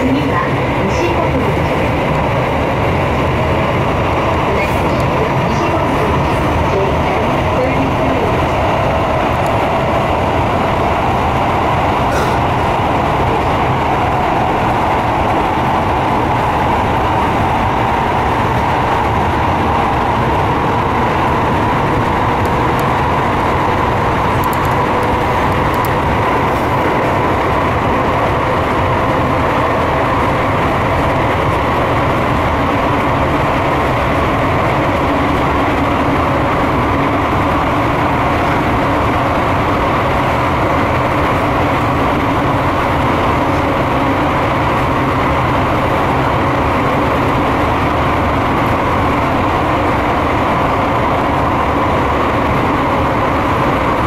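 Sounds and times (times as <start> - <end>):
faint train whine: 0.0 - 54.0
train wheels on rail: 0.0 - 54.0.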